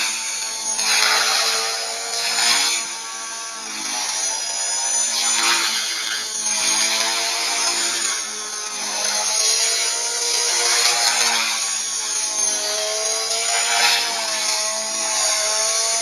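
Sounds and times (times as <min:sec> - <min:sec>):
model helicopter rotor whine: 0:00.0 - 0:16.0.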